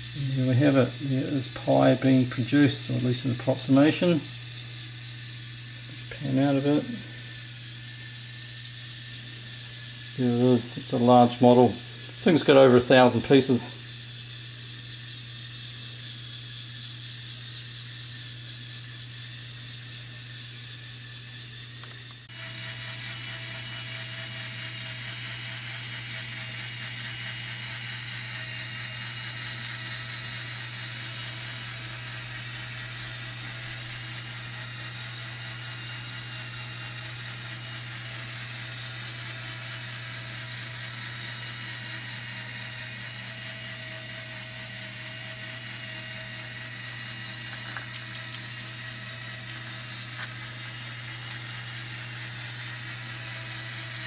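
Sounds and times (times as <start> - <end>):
faint steady whine: 0.0 - 54.0
plastic gear train whirring: 0.4 - 54.0.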